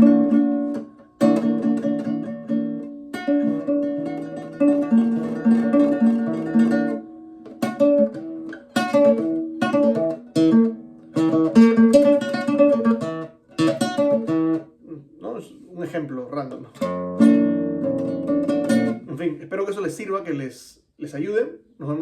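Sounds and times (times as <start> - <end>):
fingerstyle nylon-string guitar: 0.0 - 19.4.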